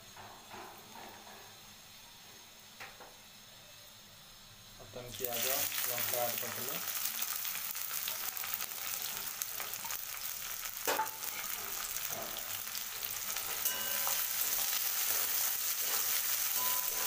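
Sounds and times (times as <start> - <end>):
onion sizzling in hot oil: 2.6 - 17.0.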